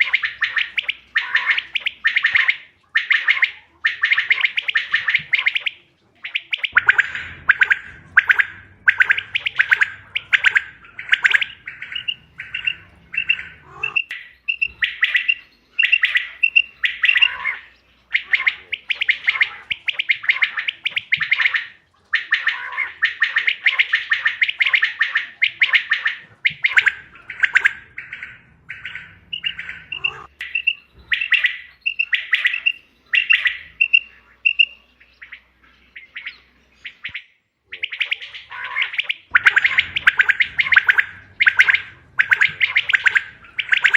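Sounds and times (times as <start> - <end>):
quail calling: 0.0 - 43.9.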